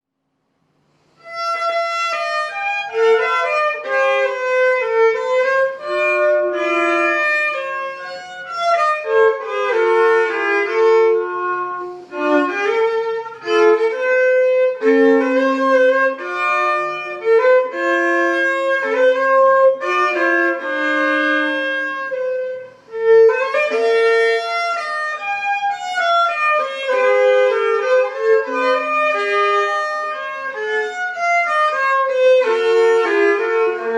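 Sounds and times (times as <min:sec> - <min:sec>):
violin playing lively melody: 0:01.2 - 0:33.9.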